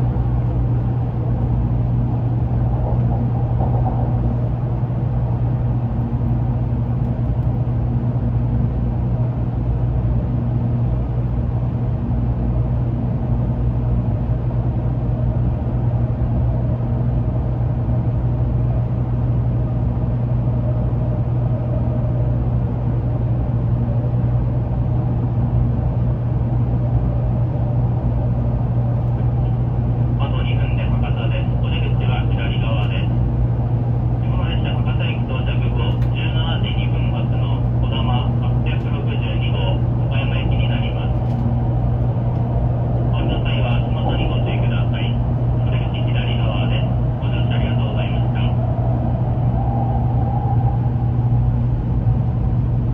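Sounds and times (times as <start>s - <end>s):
train rumbling inside carriage: 0.0s - 52.9s.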